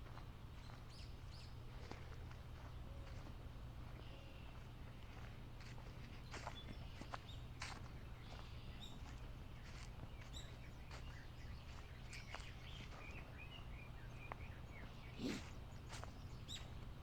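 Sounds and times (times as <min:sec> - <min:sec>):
footsteps on a trail: 0:00.0 - 0:17.0
small birds chirping: 0:00.1 - 0:17.0.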